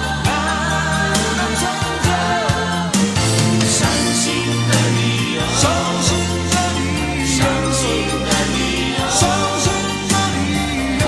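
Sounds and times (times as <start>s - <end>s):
steady drum beat: 0.0s - 11.0s
sustained bass notes: 0.0s - 11.0s.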